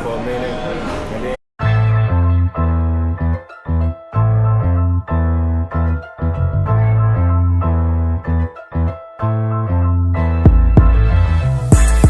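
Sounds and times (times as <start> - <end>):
electric piano chords: 1.6 - 12.0.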